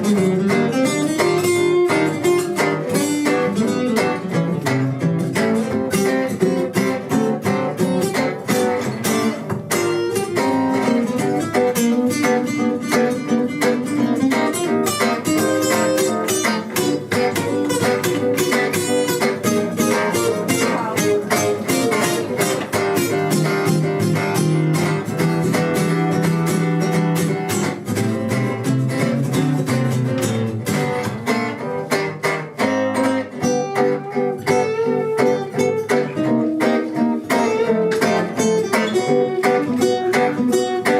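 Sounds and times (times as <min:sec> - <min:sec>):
acoustic guitar music: 0:00.0 - 0:40.9.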